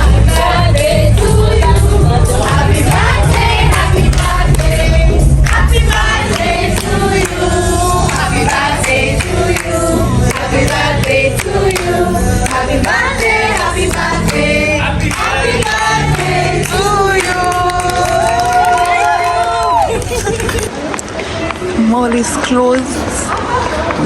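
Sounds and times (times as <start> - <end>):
choir singing: 0.0 - 19.8
music: 0.0 - 19.9.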